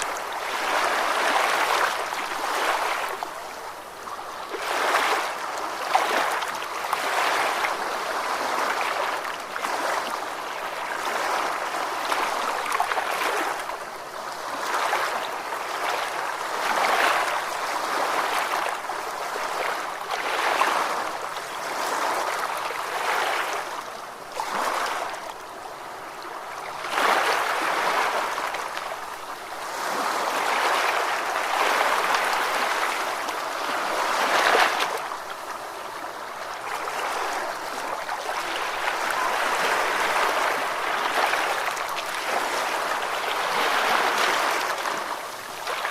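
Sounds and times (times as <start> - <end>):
ocean waves washing: 0.0 - 45.9.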